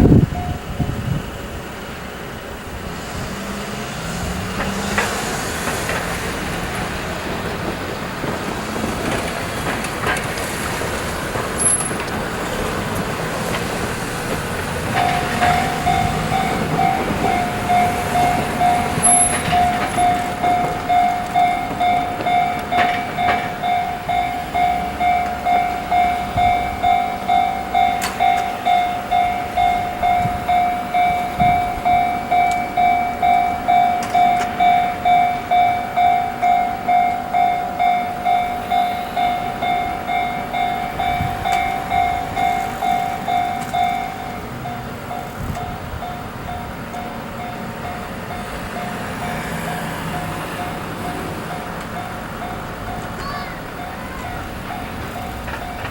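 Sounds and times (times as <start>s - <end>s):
freight train running: 0.0s - 55.9s
level crossing alarm bell: 5.0s - 55.9s.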